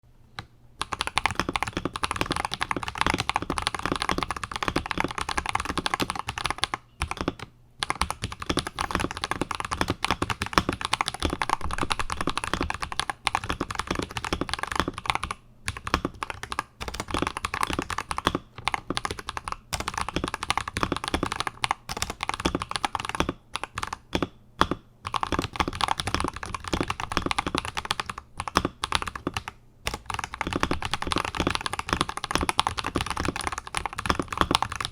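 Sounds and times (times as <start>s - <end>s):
mechanical keyboard typing: 0.4s - 34.9s.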